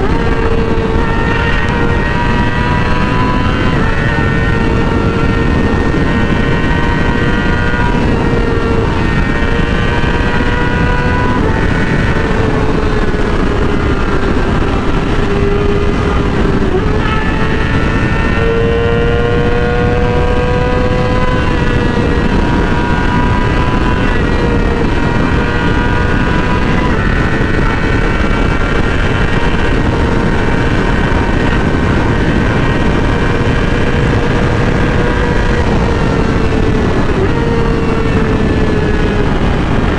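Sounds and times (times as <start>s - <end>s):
motorcycle engine at high revs: 0.0s - 39.9s
wind rush on microphone: 0.0s - 39.9s.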